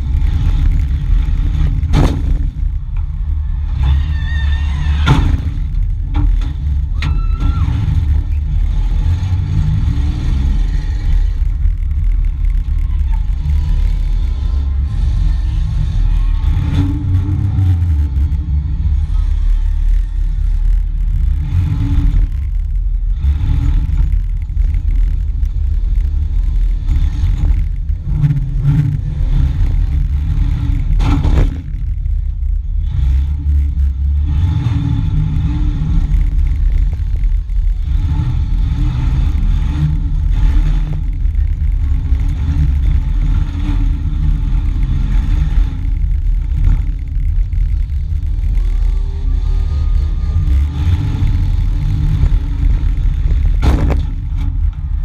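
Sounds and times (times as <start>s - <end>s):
engine running hard: 0.0s - 55.0s.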